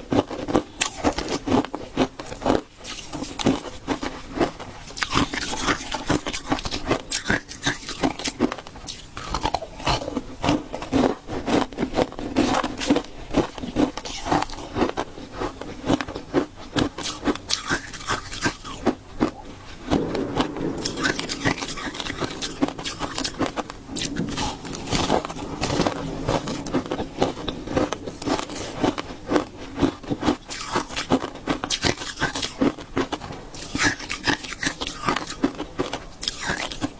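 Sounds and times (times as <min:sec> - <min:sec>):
ice being chewed: 0:00.0 - 0:36.9.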